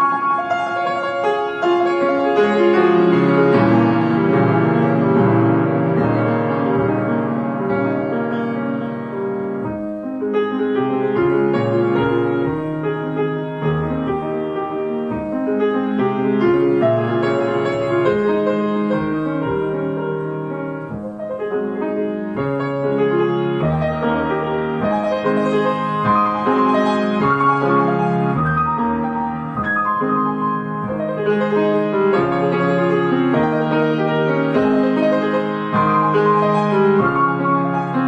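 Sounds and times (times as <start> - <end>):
solo grand piano: 0.0 - 38.0.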